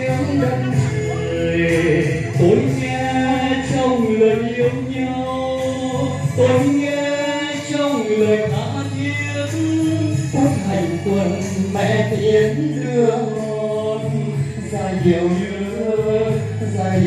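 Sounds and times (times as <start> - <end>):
musical accompaniment: 0.0 - 17.0.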